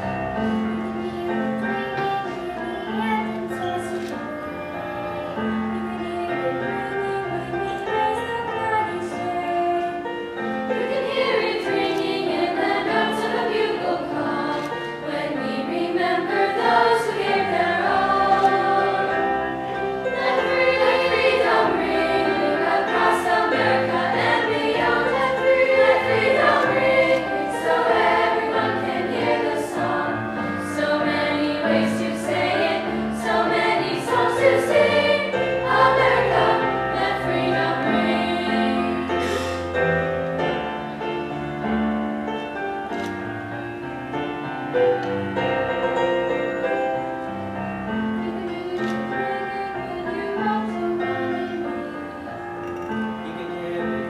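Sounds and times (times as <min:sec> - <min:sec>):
choir singing: 0:00.0 - 0:40.8, 0:44.7 - 0:54.0
piano accompaniment: 0:00.0 - 0:54.0.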